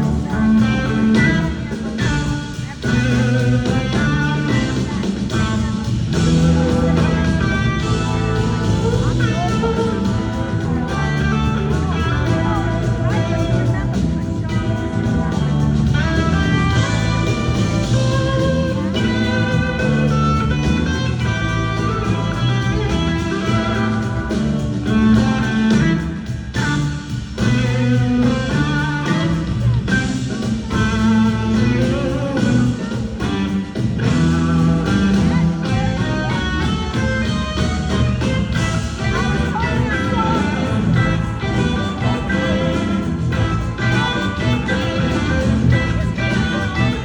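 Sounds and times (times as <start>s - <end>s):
bass: 0.0s - 47.0s
drums: 0.0s - 47.0s
electric guitar lead melody: 0.0s - 47.0s.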